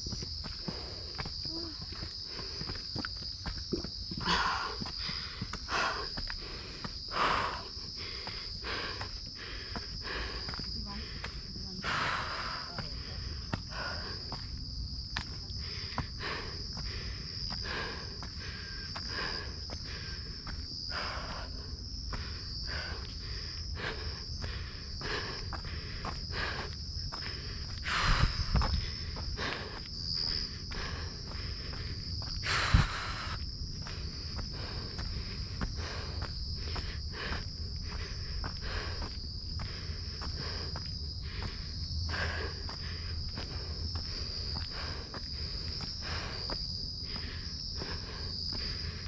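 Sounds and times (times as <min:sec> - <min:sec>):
footsteps on trail steps: 0:00.0 - 0:49.0
heavy breaths: 0:00.0 - 0:49.0
night insects chirring: 0:00.0 - 0:49.0.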